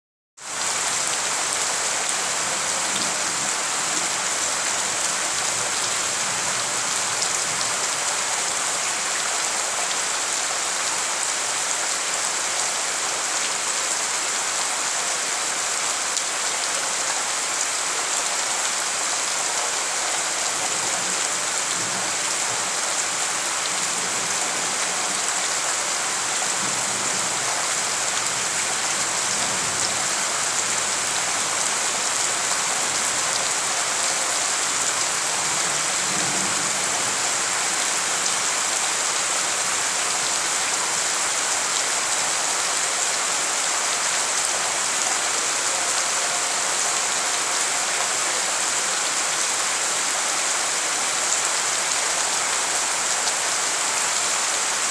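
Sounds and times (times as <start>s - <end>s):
heavy rain splashing into water: 0.4s - 54.9s.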